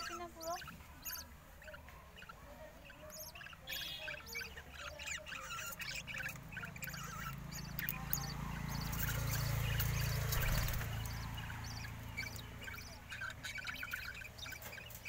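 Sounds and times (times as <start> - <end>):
budgerigar chicks chirping: 0.0 - 15.0.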